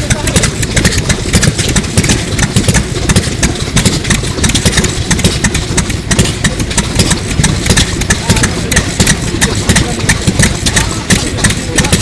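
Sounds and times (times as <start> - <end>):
engine knocking rhythmically: 0.0 - 12.0.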